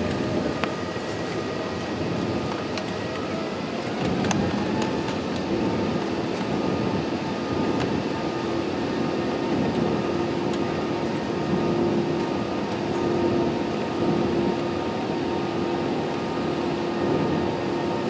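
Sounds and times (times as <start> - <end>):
jet engines humming: 0.0 - 18.0.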